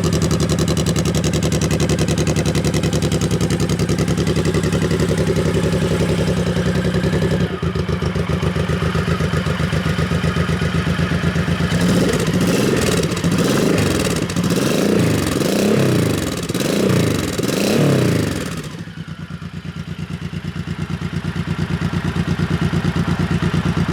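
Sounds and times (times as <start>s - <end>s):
motorcycle engine idling and revving: 0.0s - 23.9s.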